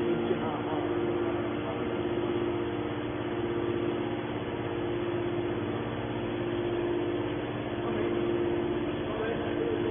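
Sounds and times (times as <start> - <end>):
hydraulic pump motor humming: 0.0 - 9.9.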